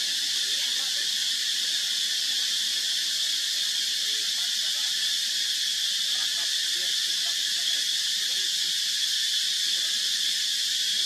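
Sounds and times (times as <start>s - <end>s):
insect chorus buzzing: 0.0s - 11.0s.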